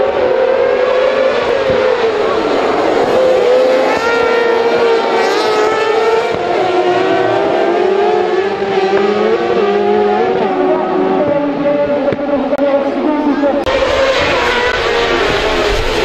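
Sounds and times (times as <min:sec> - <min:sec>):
high-revving racing engines: 0:00.0 - 0:16.0.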